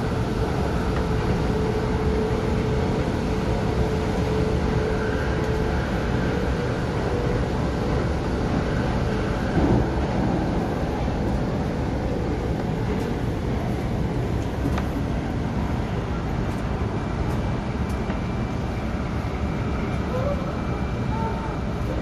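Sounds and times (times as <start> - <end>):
train rumble: 0.0 - 22.0
train whine: 0.0 - 22.0.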